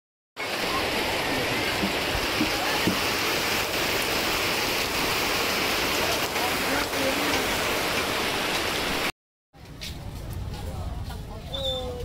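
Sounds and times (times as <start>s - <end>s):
steady rain falling: 0.4s - 11.2s.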